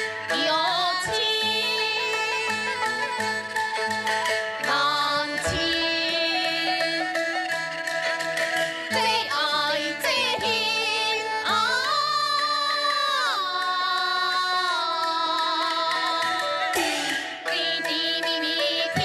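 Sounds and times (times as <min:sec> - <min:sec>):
traditional instrumental accompaniment: 0:00.0 - 0:19.0.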